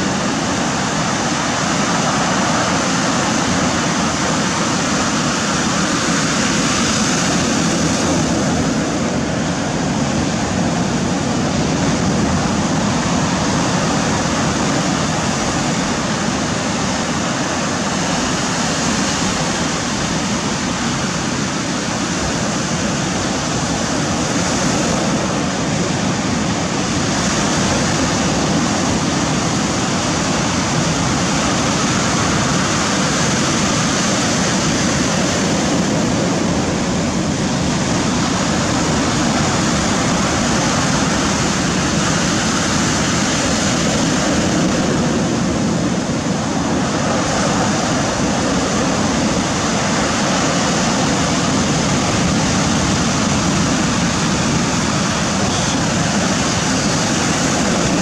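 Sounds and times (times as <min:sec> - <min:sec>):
surf washing over pebbles: 0:00.0 - 0:58.0.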